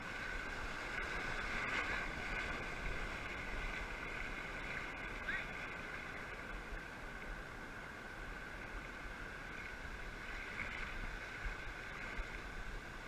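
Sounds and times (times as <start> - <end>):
surf washing over shallows: 0.0 - 13.0.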